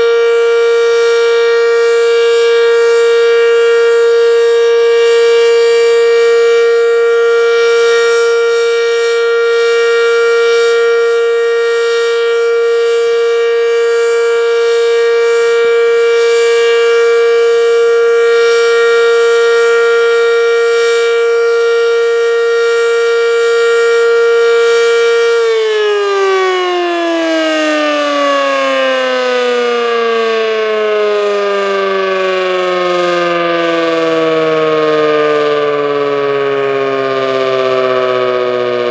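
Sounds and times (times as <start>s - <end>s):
electric siren steady tone: 0.0s - 38.9s.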